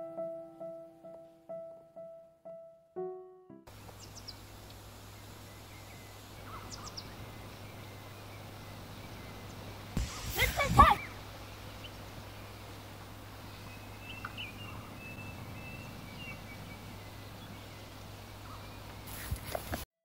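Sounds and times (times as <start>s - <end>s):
outdoor rustle in grass: 3.7s - 19.9s.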